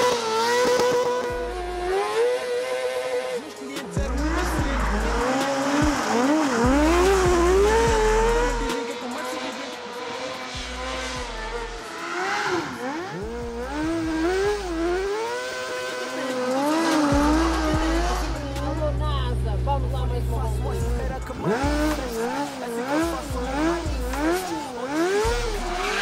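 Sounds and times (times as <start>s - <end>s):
kart engine revving: 0.0s - 26.0s.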